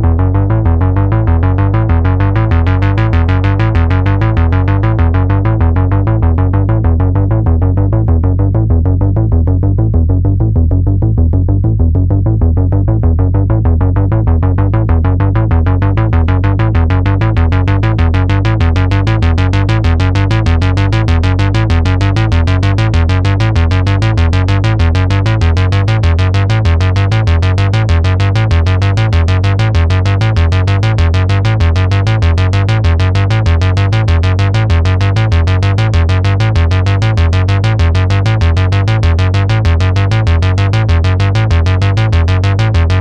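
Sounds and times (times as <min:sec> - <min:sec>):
pulsing synth bass line: 0:00.0 - 0:43.0.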